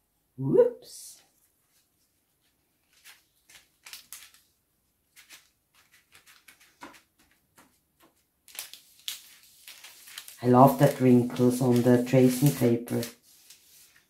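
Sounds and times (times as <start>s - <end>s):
tracing paper crinkling: 1.6s - 14.0s.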